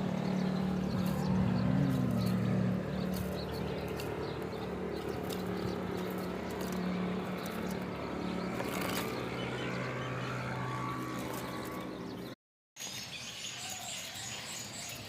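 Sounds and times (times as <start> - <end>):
low engine-like hum: 0.0 - 12.4.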